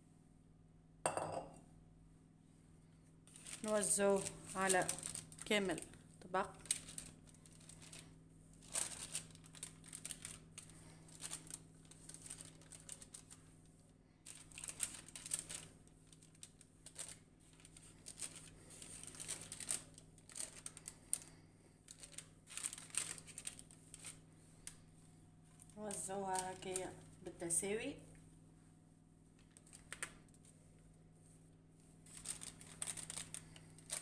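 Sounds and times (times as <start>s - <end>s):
baking paper crinkling: 3.3s - 28.1s, 29.3s - 34.0s.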